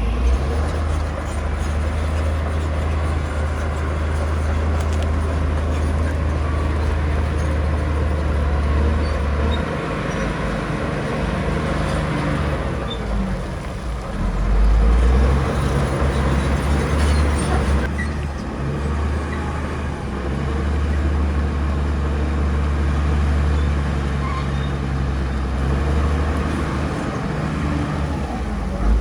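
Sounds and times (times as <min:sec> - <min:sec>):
heavy diesel engine humming: 0:00.0 - 0:29.0.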